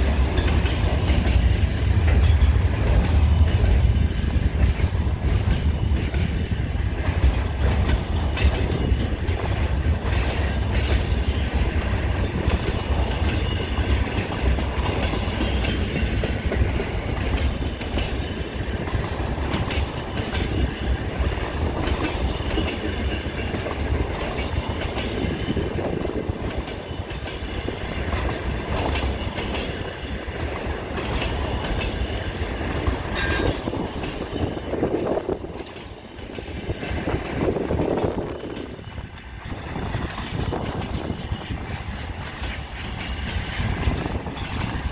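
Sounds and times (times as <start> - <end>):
freight train rumbling: 0.0 - 44.9
wheels clacking over rail joints: 0.0 - 44.9.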